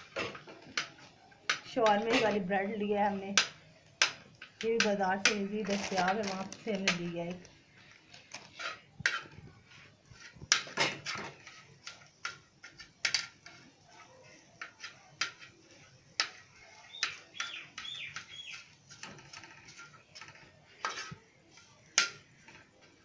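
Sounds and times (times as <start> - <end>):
knife and spatula scraping pan: 1.5 - 2.5, 4.6 - 22.6.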